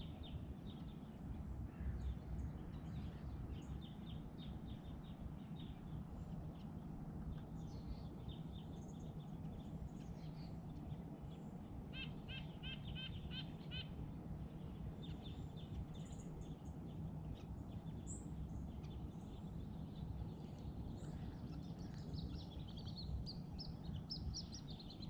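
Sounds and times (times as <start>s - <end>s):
small birds calling: 0.0s - 25.0s
steady low rumble: 0.0s - 25.0s.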